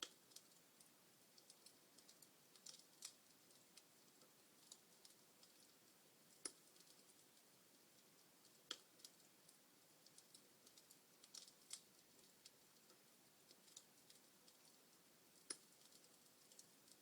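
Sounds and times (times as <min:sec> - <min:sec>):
wood fire crackling faintly: 0:00.0 - 0:17.0.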